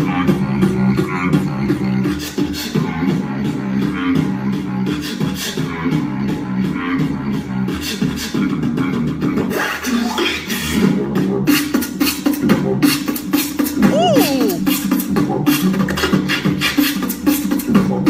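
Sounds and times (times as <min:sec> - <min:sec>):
person beatboxing: 0:00.0 - 0:18.0.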